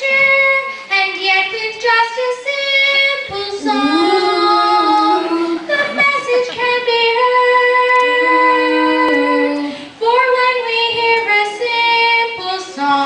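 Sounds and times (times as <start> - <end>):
children singing a duet: 0.0 - 13.0.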